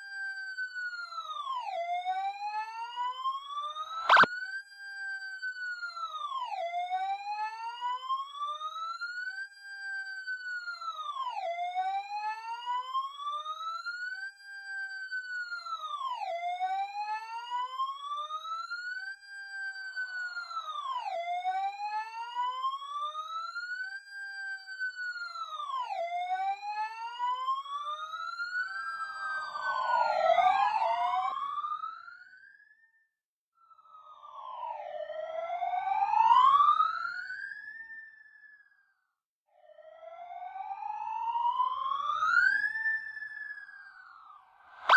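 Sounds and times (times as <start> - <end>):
fire engine siren wailing: 1.1 - 4.3, 5.9 - 9.2, 10.3 - 32.4, 34.0 - 38.0, 39.8 - 44.9.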